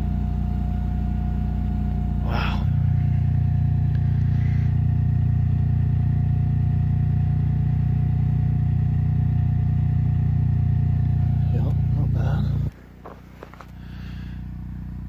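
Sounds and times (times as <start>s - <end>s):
faint steady whine: 0.0s - 15.0s
generator engine hum: 0.0s - 15.0s.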